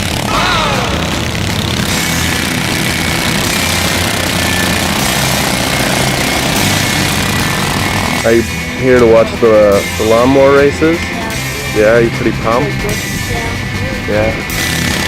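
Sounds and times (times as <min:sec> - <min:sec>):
lawn mower engines running: 0:00.0 - 0:15.0.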